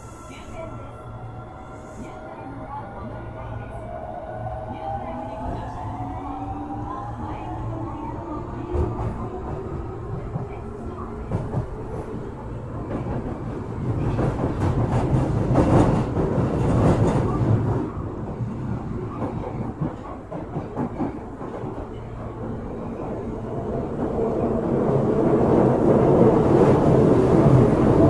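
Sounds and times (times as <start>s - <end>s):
subway wheel and rail noise: 0.0s - 28.0s.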